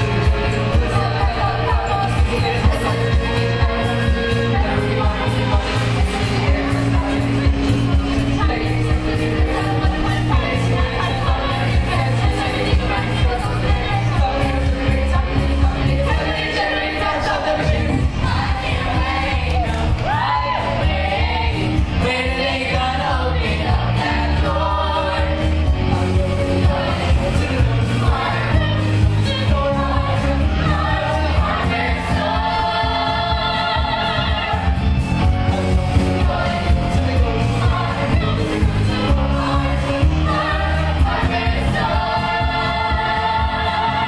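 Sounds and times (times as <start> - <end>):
backing music with heavy bass: 0.0 - 44.0
youth group singing pop song: 0.0 - 44.0.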